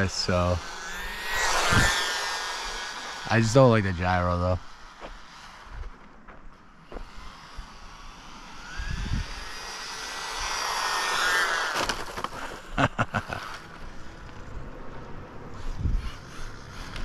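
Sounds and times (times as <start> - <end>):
toy car electric motor whining: 0.0 - 14.4, 15.5 - 17.0.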